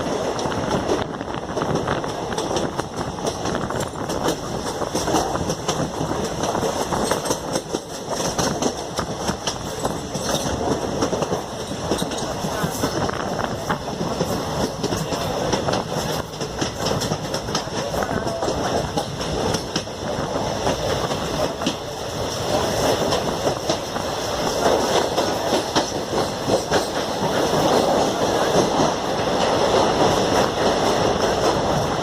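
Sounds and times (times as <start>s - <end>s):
train running noise: 0.0s - 32.0s
train wheels clattering: 0.0s - 32.0s.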